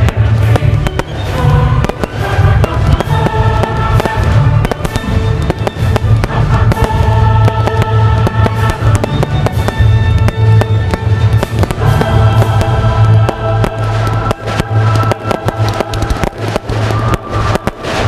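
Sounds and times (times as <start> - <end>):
fireworks bursting: 0.0 - 18.0
loud music with heavy bass: 0.0 - 18.0.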